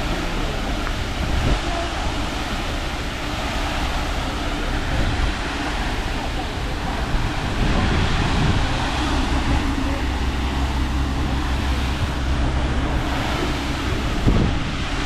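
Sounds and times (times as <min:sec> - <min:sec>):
boat engines droning: 0:00.0 - 0:15.0
water noise: 0:00.0 - 0:15.0
wind: 0:00.0 - 0:15.0.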